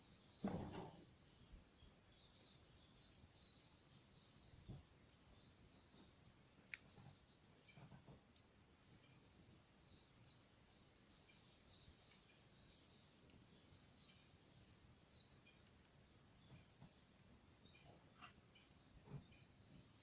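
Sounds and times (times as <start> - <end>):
campfire crackling: 2.2 - 20.0.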